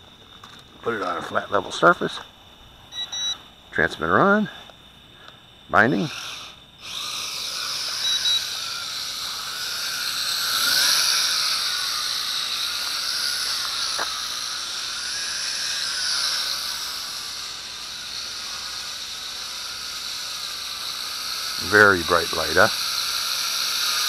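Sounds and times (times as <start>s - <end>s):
quadcopter motors buzzing whine: 0.0s - 24.0s
steady high hiss: 0.0s - 24.0s.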